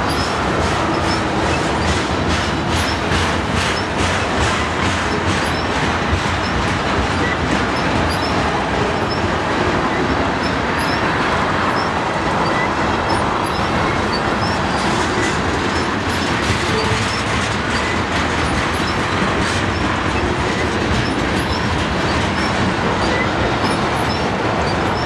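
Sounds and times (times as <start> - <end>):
freight train wheels rumbling: 0.0 - 25.0
wheels clicking over rail joints: 0.0 - 25.0.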